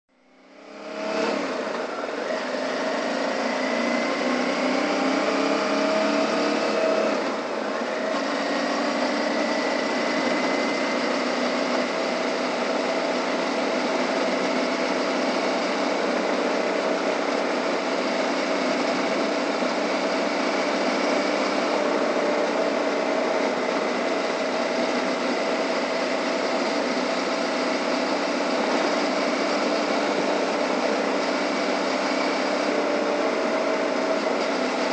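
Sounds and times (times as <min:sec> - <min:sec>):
motorcycle engine running: 0:00.2 - 0:34.9
wind and road noise: 0:00.9 - 0:34.9.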